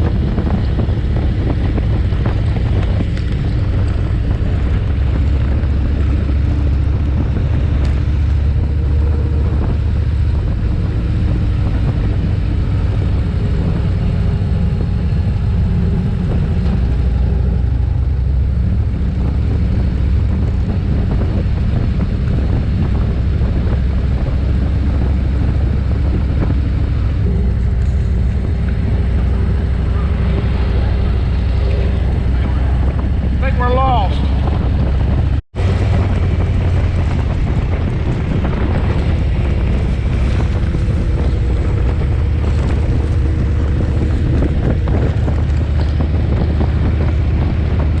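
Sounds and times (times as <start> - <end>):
motorcycle engine droning: 0.0 - 48.0
road and wind noise: 0.0 - 48.0.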